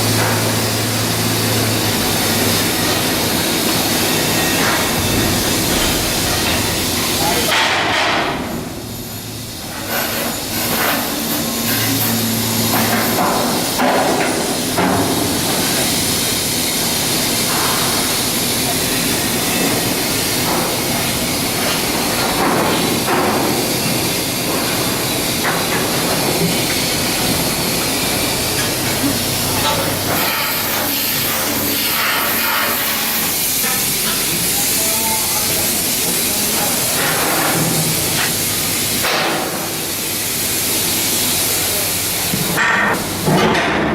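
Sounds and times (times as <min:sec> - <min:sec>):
hiss of tools and machinery: 0:00.0 - 0:43.9.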